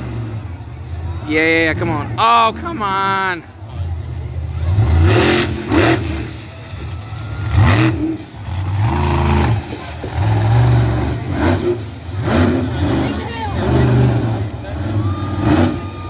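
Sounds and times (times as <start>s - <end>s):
monster truck engine revving: 0.0s - 1.1s, 3.8s - 16.0s.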